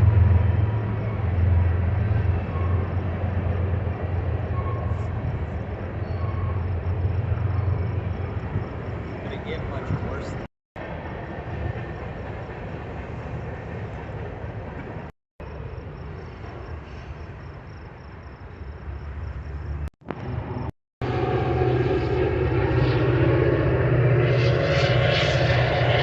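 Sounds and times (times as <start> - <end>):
engine drone with low hum: 0.0 - 26.0
train passing rumble: 0.0 - 26.0.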